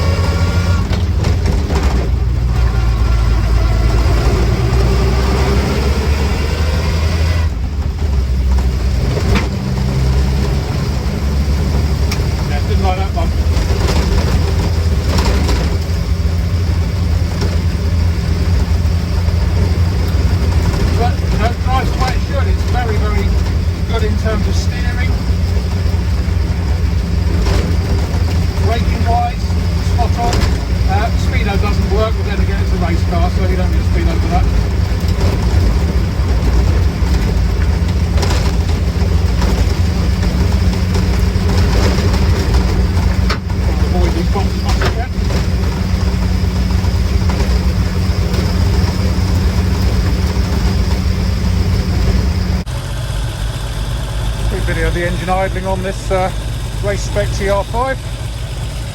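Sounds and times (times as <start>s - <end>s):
race car engine droning: 0.0s - 58.9s
road noise: 0.0s - 58.9s.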